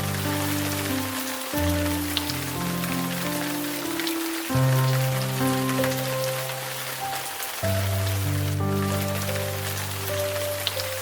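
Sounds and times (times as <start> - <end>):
soft piano notes: 0.0 - 11.0
steady rain: 0.0 - 11.0.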